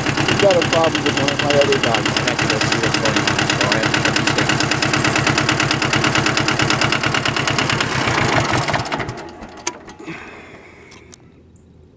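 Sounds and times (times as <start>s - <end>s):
diesel tractor engine chugging: 0.0s - 11.5s.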